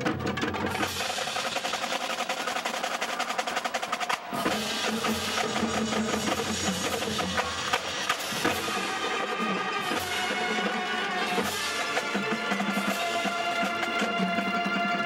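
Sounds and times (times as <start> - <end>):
marching drums: 0.0 - 15.0.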